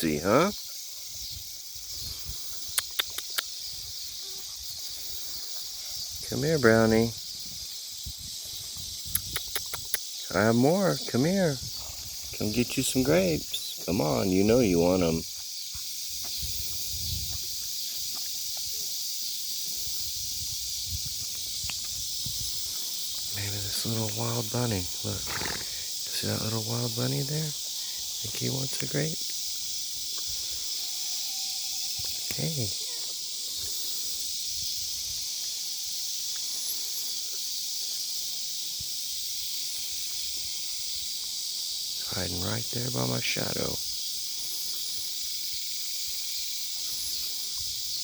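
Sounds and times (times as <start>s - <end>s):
high-pitched outdoor hiss: 0.0s - 48.0s
insect chorus drone: 0.0s - 48.0s.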